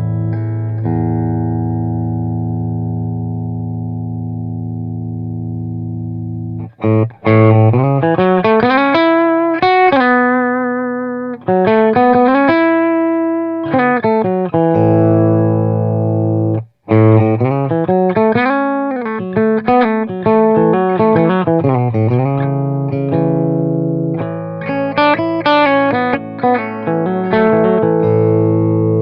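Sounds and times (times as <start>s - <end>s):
electric guitar phrases: 0.0s - 29.0s.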